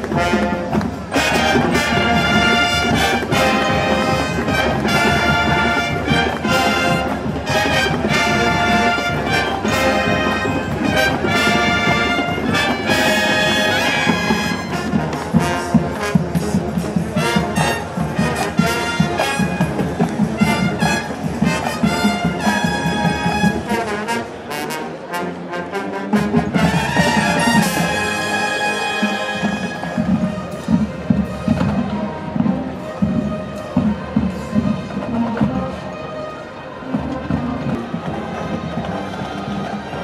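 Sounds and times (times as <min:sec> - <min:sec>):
drum beats: 0:00.0 - 0:24.4, 0:26.2 - 0:35.8, 0:36.9 - 0:40.0
marching band brass: 0:00.0 - 0:40.0.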